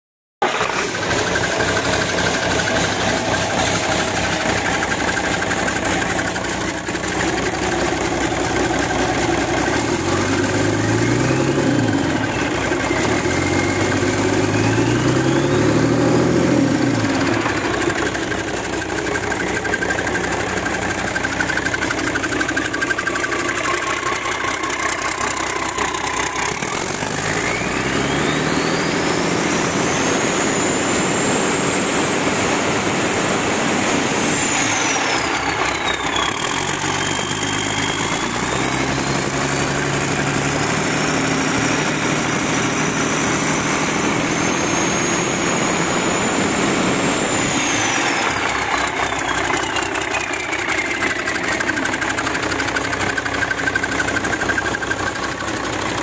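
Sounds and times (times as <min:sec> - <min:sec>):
diesel engine idling and revving: 0:00.4 - 0:56.0
turbo whine: 0:00.6 - 0:56.0.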